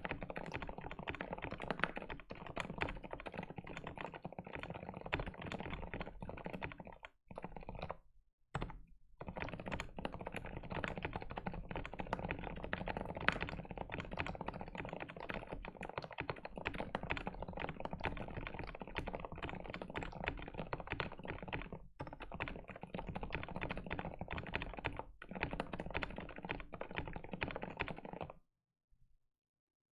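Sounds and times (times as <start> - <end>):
typing on mechanical keyboard: 0.0 - 8.0, 8.6 - 28.4.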